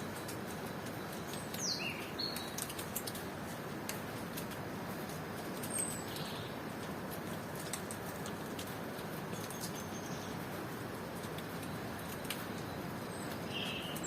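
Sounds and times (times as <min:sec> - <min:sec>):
raindrops ticking sharply: 0:00.0 - 0:14.0
steady rain: 0:00.0 - 0:14.0.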